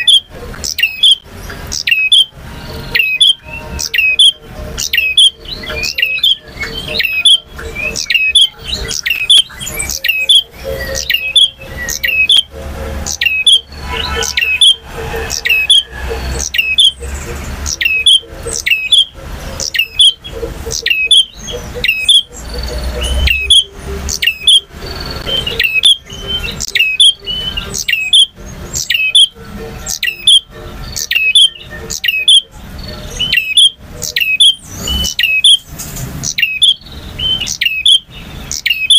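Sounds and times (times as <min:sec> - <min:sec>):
bird high chirping song: 0:00.0 - 0:38.9.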